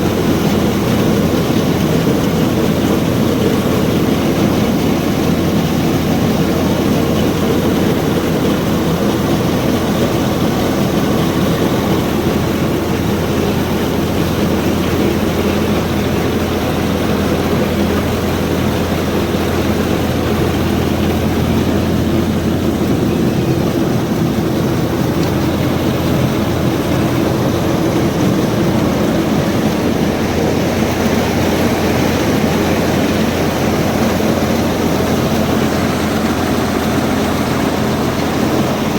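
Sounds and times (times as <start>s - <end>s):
constant low hum: 0.0s - 38.9s
tractor engine running: 0.0s - 38.9s.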